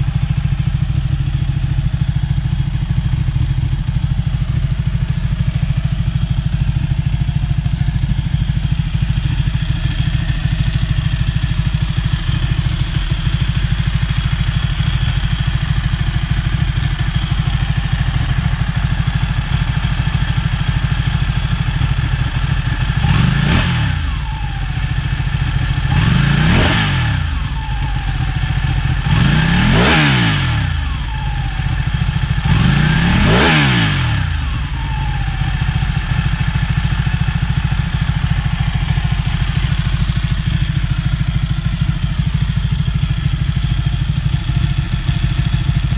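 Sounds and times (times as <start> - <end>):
motorcycle engine idling: 0.0 - 45.9
motorcycle engine revving: 0.0 - 45.9.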